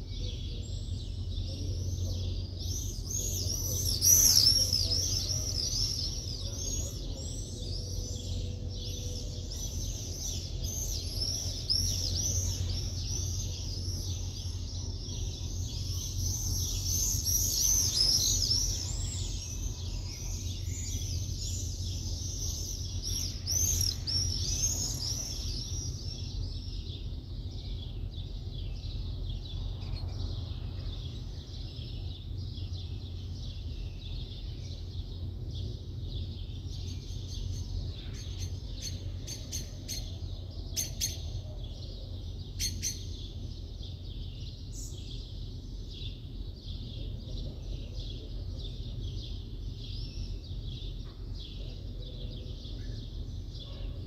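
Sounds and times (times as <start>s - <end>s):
low city rumble: 0.0s - 54.0s
small birds chirping: 0.0s - 54.0s.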